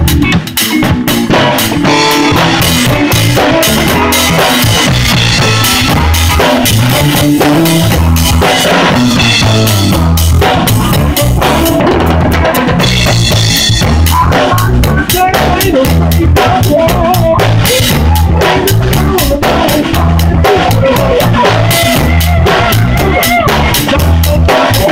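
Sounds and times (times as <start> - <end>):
bass line of low notes: 0.0 - 24.9
drums and cymbals: 0.0 - 24.9
rock band playing: 0.0 - 24.9.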